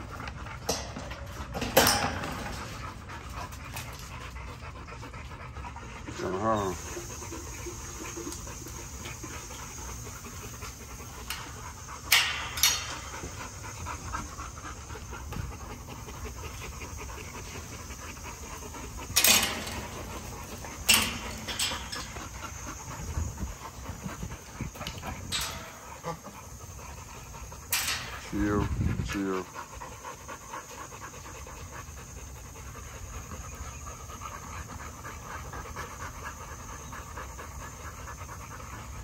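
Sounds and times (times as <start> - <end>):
dog panting: 0.0 - 39.0.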